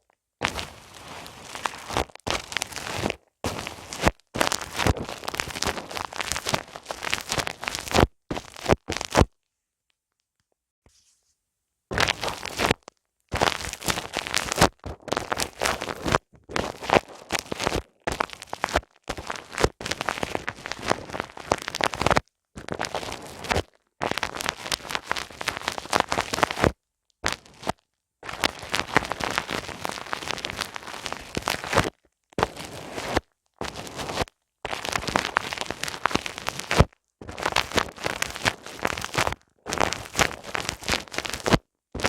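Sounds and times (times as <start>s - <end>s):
rubbing and scratching on microphone: 0.4s - 9.3s, 10.8s - 42.0s.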